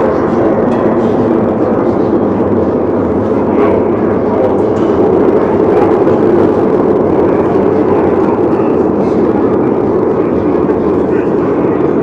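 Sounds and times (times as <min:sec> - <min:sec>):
blurred reverberant crowd chatter: 0:00.0 - 0:12.0.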